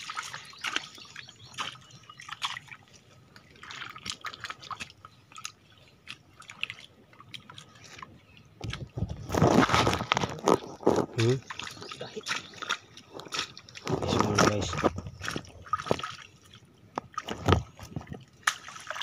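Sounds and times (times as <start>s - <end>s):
mud squelching and splashing: 0.0s - 19.0s.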